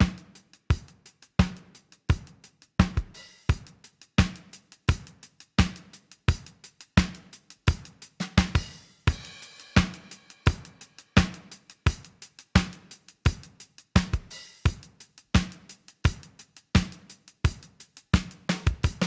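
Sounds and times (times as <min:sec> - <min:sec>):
drum kit beat: 0:00.0 - 0:19.0.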